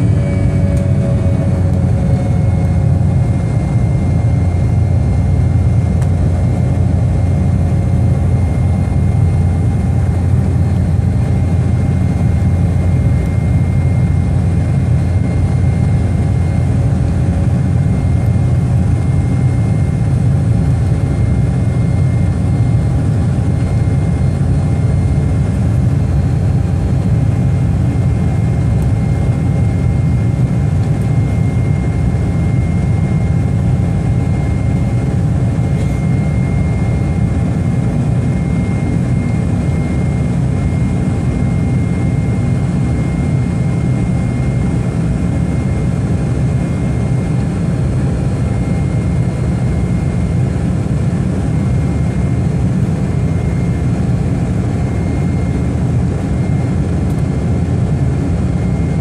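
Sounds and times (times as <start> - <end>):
airliner engines droning in cabin: 0.0 - 59.0.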